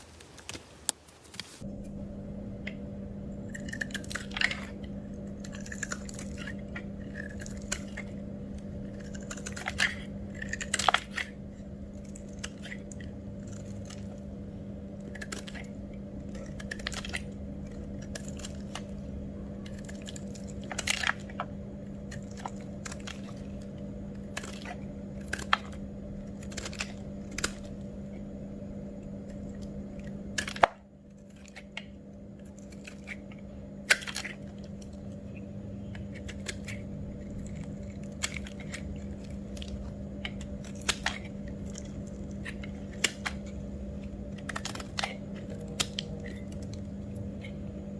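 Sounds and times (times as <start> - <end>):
steady electrical hum: 0.0 - 47.9.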